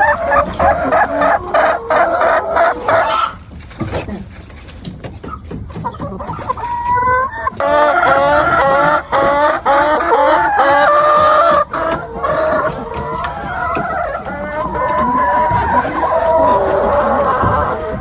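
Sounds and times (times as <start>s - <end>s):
chickens clucking and cackling: 0.0s - 18.0s.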